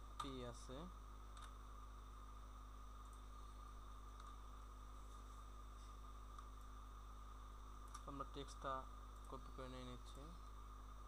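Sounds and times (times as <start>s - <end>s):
faint hiss: 0.0s - 11.0s
low electrical hum: 0.0s - 11.0s.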